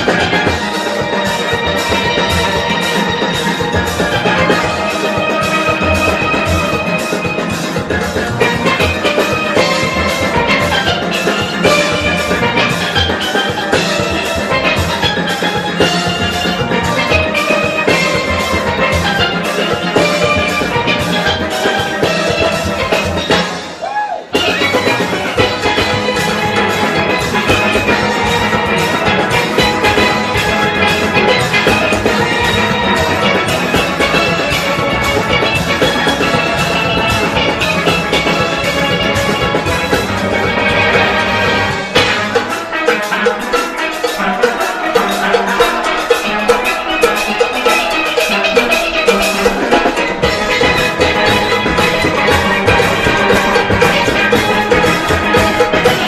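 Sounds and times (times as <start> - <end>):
drum kit: 0.0 - 56.0
steel pans playing melody: 0.0 - 56.0.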